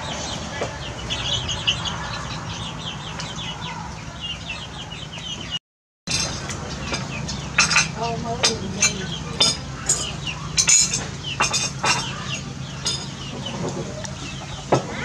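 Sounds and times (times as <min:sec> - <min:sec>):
chickens clucking: 0:00.0 - 0:05.6, 0:06.2 - 0:15.0.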